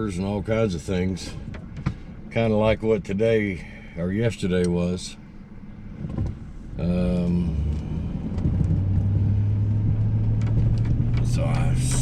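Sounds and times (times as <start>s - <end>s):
truck engine drone: 0.1s - 12.0s.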